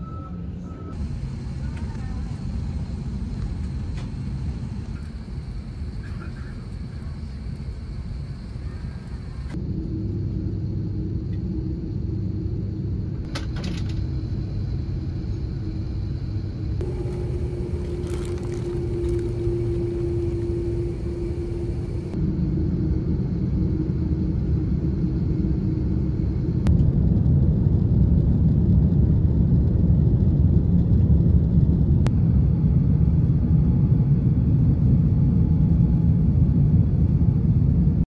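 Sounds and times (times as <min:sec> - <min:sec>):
low rumble of moving vehicle: 0:00.0 - 0:38.0.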